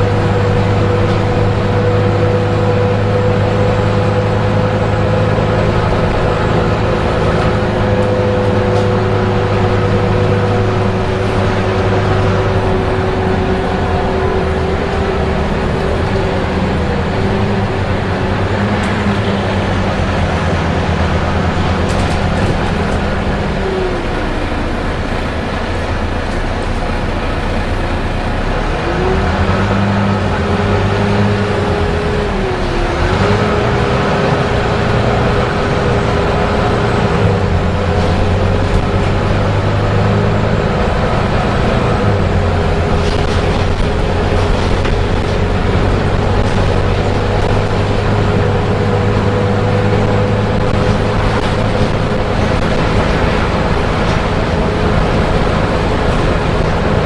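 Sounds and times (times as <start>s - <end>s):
bus diesel engine running: 0.0s - 57.0s
cooling fan whine: 0.0s - 57.0s.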